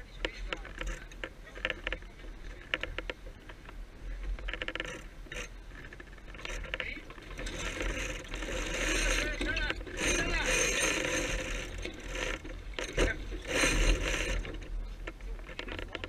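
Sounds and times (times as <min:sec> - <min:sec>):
winches clicking: 0:00.2 - 0:16.0.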